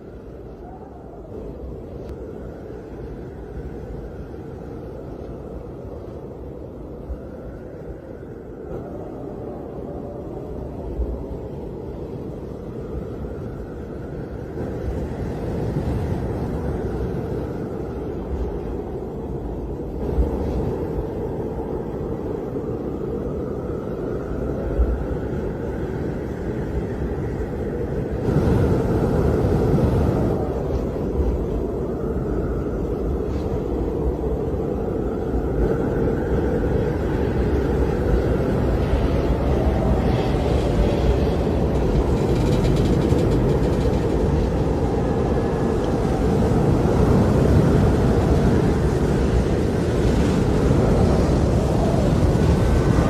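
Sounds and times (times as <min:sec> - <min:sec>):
deep rumbling wind roar: 0:00.0 - 0:53.0.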